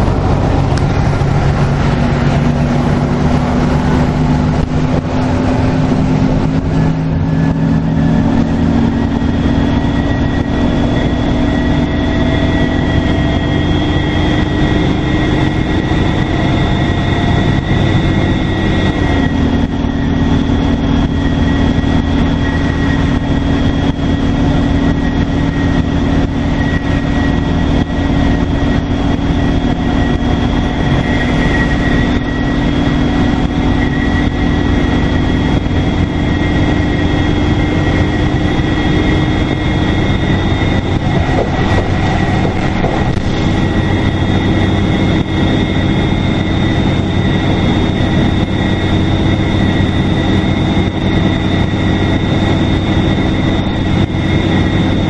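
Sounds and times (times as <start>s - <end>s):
bus diesel engine running: 0.0s - 55.0s
high turbocharger whistle: 0.0s - 55.0s.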